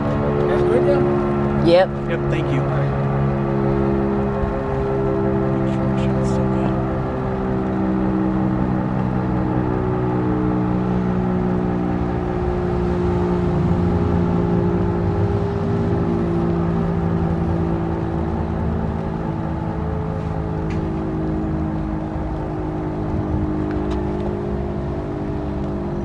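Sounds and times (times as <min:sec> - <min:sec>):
warning siren wailing: 0:00.0 - 0:26.0.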